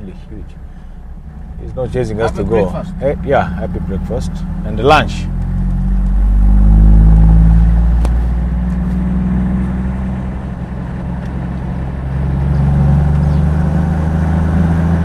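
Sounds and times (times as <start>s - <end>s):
engine drone: 0.0s - 15.0s
road noise: 0.0s - 15.0s.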